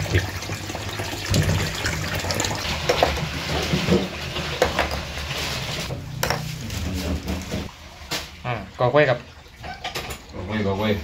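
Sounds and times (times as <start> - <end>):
tap water running into basin: 0.0 - 5.9, 7.0 - 10.5.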